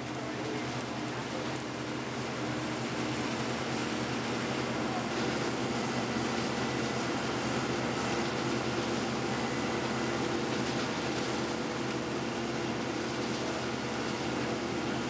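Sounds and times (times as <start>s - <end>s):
harvester engine drone: 0.0s - 15.0s.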